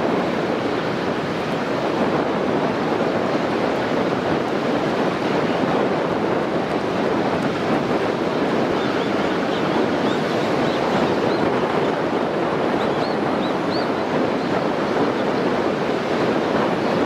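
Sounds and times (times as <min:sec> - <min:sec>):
wind blowing on microphone: 0:00.0 - 0:17.0.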